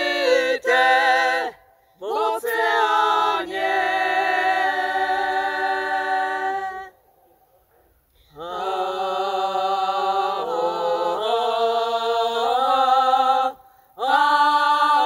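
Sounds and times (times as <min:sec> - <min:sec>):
group singing a cappella: 0:00.0 - 0:07.0, 0:08.3 - 0:15.0.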